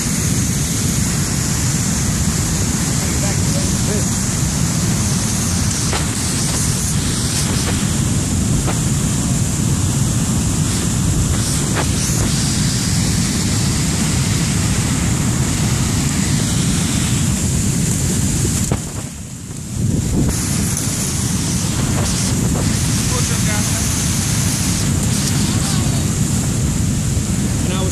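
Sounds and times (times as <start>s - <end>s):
water rushing over spillway: 0.0s - 27.9s
wind on microphone: 0.0s - 27.9s.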